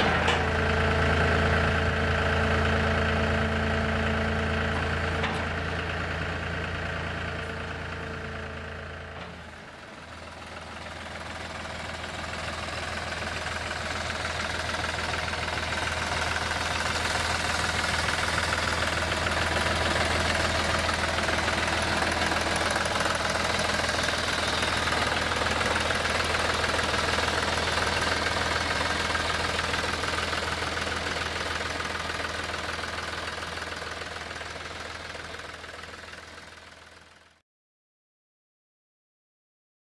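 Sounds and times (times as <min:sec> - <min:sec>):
tractor diesel engine running: 0:00.0 - 0:37.4.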